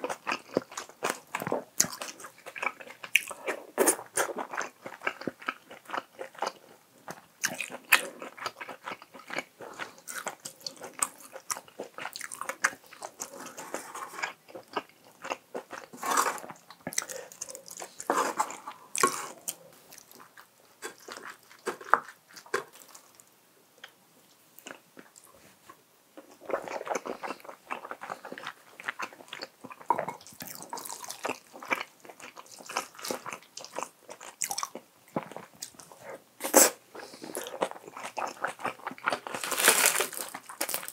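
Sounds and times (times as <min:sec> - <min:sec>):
person chewing crunchy food: 0:00.0 - 0:23.2, 0:24.6 - 0:40.9.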